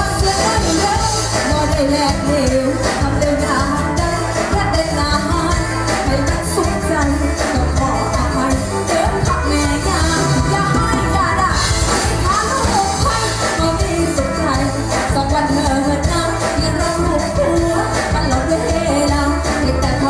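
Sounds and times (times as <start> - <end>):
live band playing: 0.0 - 20.0
woman singing into microphone: 0.0 - 20.0.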